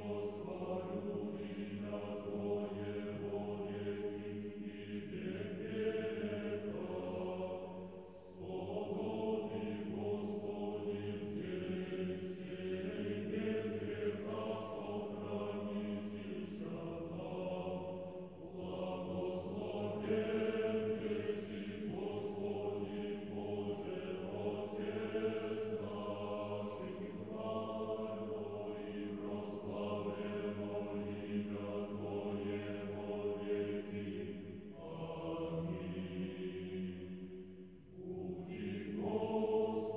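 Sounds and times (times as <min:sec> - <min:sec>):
choir singing chant: 0:00.0 - 0:39.9.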